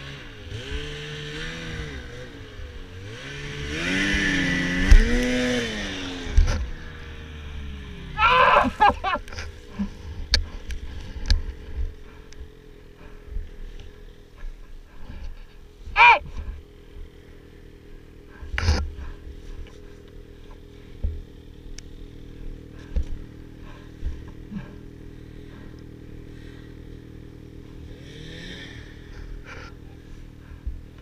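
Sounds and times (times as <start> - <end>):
snowmobile engine idling: 0.0 - 31.0.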